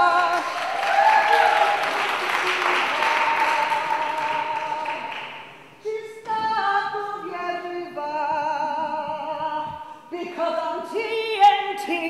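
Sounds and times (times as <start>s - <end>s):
woman singing operatically: 0.0s - 12.0s.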